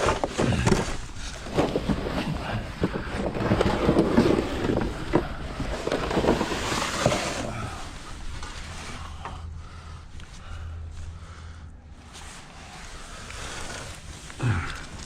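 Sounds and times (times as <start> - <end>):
close rustling and scraping: 0.0 - 11.2, 11.9 - 15.0.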